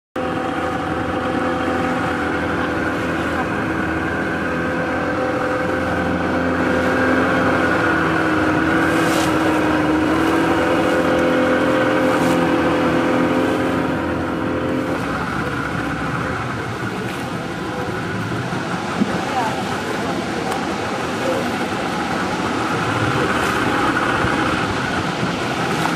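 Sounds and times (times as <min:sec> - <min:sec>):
motorboat engine running: 0:00.2 - 0:25.9
water rushing noise: 0:00.2 - 0:25.9.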